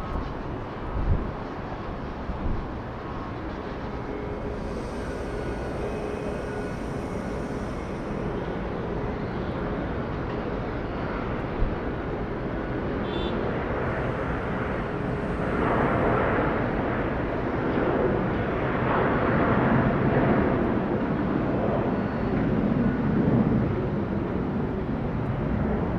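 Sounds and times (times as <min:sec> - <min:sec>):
jet airliner engine rushing: 0:00.0 - 0:25.9.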